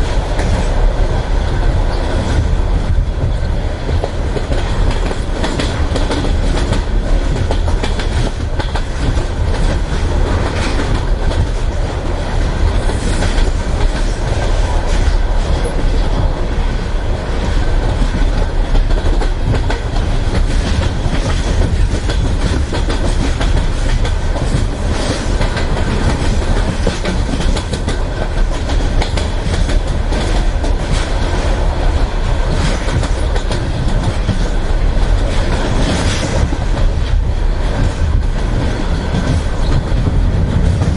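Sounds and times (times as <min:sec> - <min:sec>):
train carriage rumbling: 0:00.0 - 0:40.9
wheels clickety-clack over rail joints: 0:00.0 - 0:40.9.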